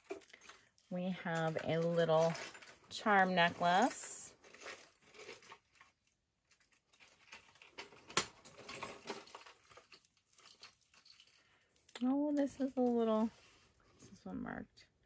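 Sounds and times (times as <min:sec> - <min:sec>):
jewelry rustling and clinking: 0:00.0 - 0:13.9.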